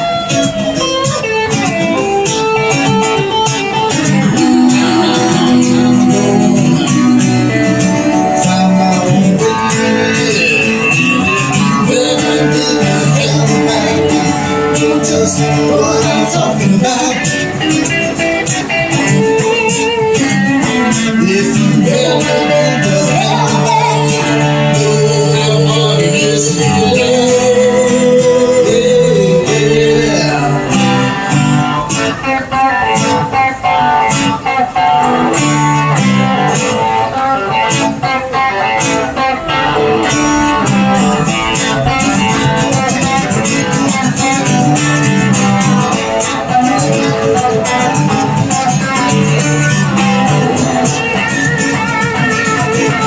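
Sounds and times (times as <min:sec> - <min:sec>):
bluesy guitar solo: 0:00.0 - 0:53.0
live rock band playing: 0:00.0 - 0:53.0.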